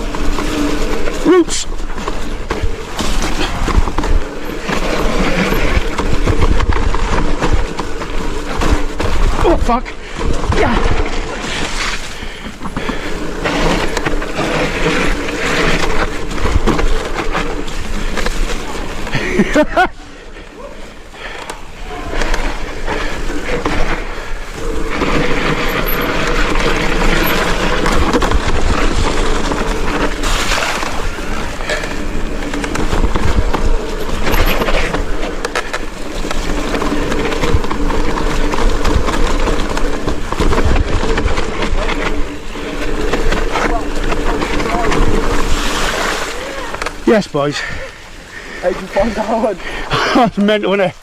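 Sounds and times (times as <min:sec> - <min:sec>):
bike chain and frame rattling: 0:00.0 - 0:51.0
tyre and wind noise: 0:00.0 - 0:51.0.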